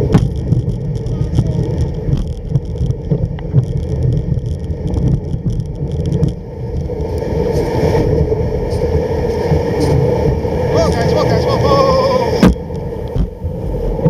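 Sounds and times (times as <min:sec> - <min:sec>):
sled runners scraping over snow: 0:00.0 - 0:14.0
wind on microphone: 0:00.0 - 0:14.0.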